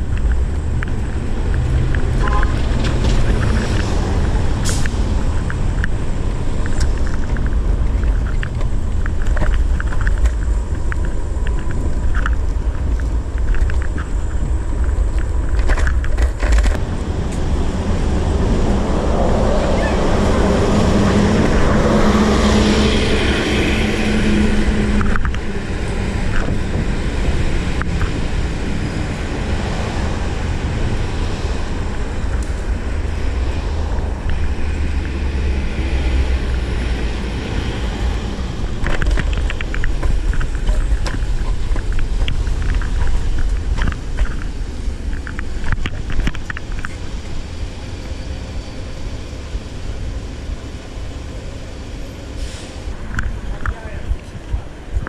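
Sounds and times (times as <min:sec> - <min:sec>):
wind rumble on microphone: 0:00.0 - 0:52.2, 0:52.8 - 0:55.0
bus engine hum: 0:00.0 - 0:55.0
road noise: 0:00.0 - 0:55.0.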